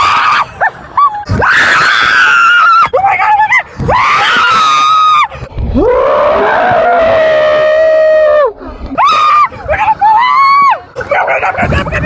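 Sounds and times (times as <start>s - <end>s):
roller coaster riders screaming: 0.0s - 12.0s.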